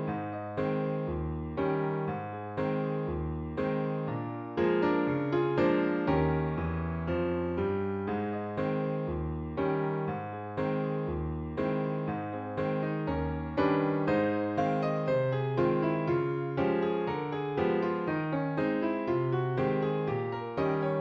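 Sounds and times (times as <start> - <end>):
electric piano chords: 0.0 - 21.0.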